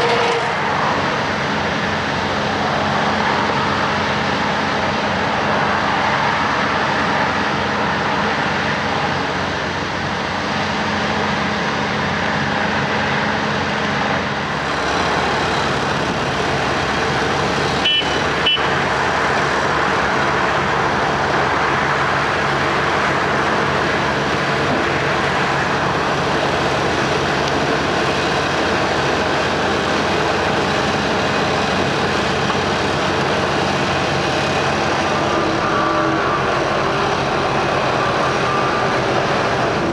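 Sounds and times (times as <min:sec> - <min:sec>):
diesel engines of paving machinery: 0:00.0 - 0:39.9.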